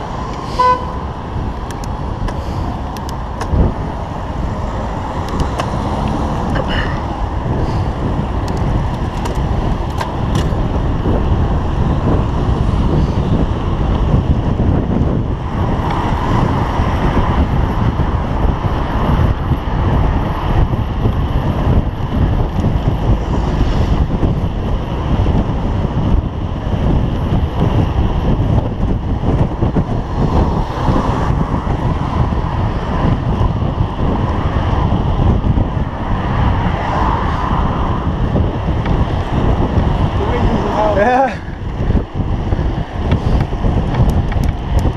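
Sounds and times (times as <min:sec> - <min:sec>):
passing motor traffic: 0:00.0 - 0:44.9
wind rush on microphone: 0:00.0 - 0:44.9.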